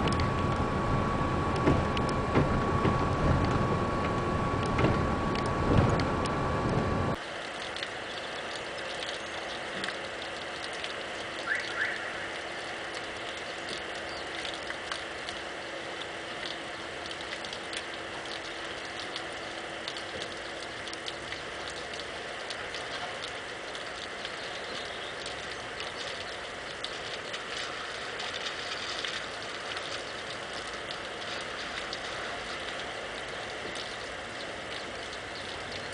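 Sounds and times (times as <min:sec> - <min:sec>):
light rain pattering: 0:00.0 - 0:35.9.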